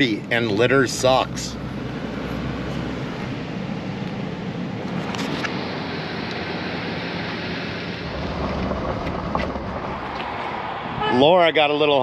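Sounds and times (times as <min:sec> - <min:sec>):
engine low steady hum: 0:00.0 - 0:11.9
road noise rushing hiss: 0:00.9 - 0:11.8.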